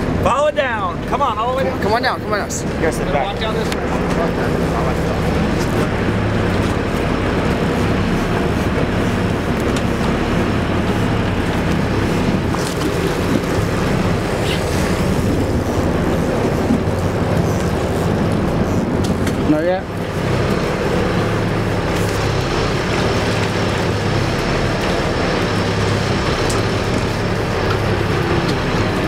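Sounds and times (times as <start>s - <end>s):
boat engine humming: 0.0s - 29.0s
water noise: 0.0s - 29.0s
wind: 0.0s - 29.0s.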